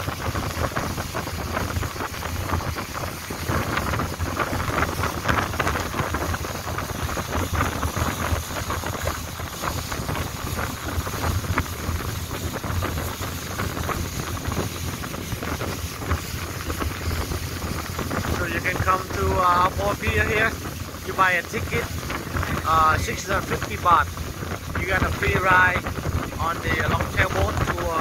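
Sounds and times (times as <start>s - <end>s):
boat engine running: 0.0s - 28.0s
wind buffeting microphone: 0.0s - 28.0s.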